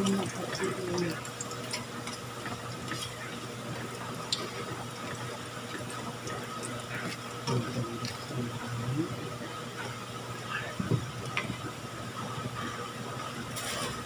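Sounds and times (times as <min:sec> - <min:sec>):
oil popping and crackling: 0:00.0 - 0:12.4
frying oil sizzling: 0:00.0 - 0:14.0.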